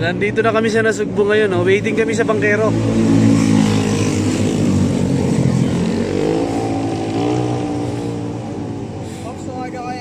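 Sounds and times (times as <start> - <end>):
passing vehicle engine drone: 1.6 - 9.7.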